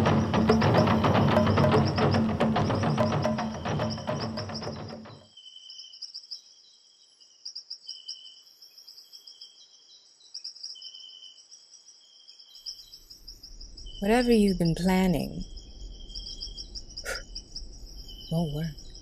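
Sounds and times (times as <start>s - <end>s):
insects trilling: 0.0s - 19.0s
lower insect call: 0.0s - 19.0s.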